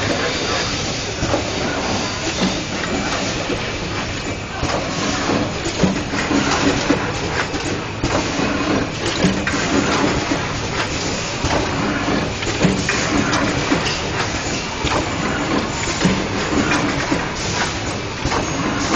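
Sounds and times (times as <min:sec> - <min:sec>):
printing machine running: 0:00.0 - 0:18.9.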